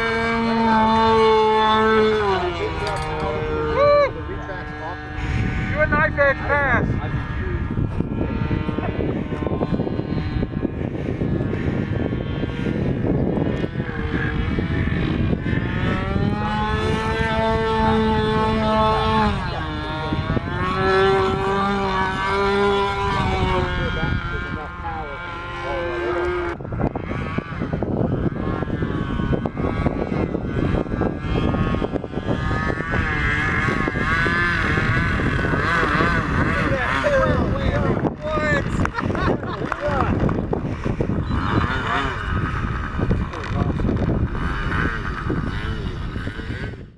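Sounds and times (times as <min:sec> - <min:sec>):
model aircraft motor and propeller droning: 0:00.0 - 0:46.9
rough wind-like rumble: 0:00.0 - 0:46.9
steady buzzing tone: 0:00.0 - 0:46.9.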